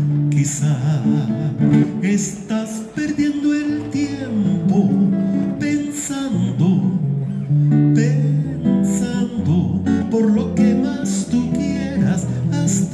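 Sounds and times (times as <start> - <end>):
acoustic guitar strumming: 0.0 - 12.9
man singing: 0.0 - 12.9.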